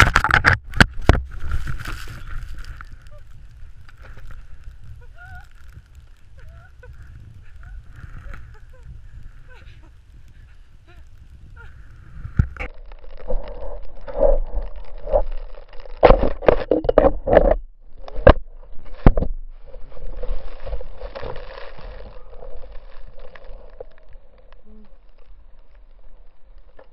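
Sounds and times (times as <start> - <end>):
rustling and scraping in snow: 0.8 - 16.0, 17.9 - 26.9.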